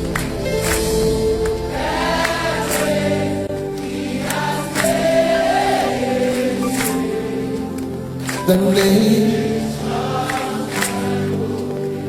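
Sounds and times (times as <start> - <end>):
group singing gospel song: 0.0 - 12.0
instrumental accompaniment: 0.0 - 12.0.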